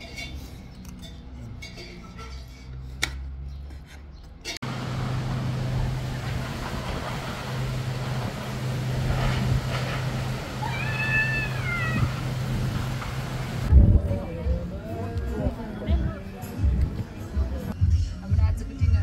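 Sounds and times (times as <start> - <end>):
road traffic noise: 0.0 - 17.8.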